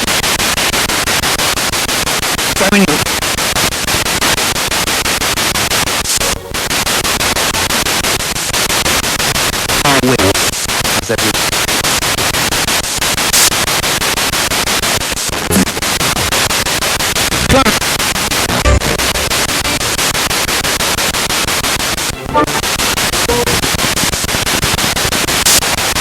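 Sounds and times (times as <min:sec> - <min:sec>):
pulsing radio static: 0:02.2 - 0:26.0.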